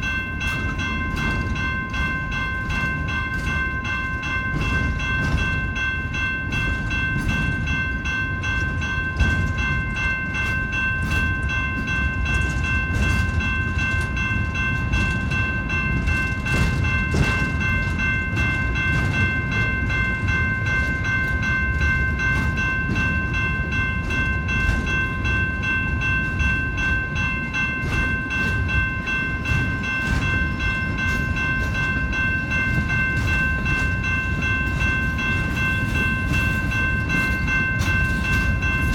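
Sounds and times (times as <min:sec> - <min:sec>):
train cars rumbling: 0:00.0 - 0:38.9
wheels clicking over rails: 0:00.0 - 0:38.9.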